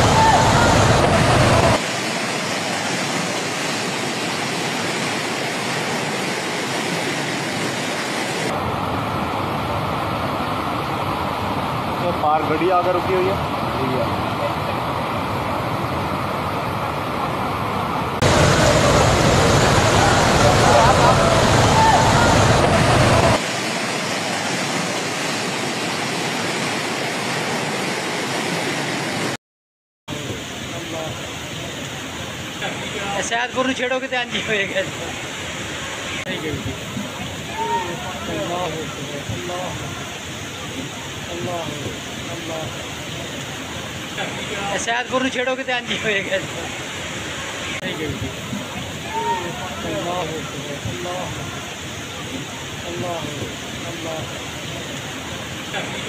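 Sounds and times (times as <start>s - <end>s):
floodwater rushing: 0.0s - 29.4s, 30.1s - 56.0s.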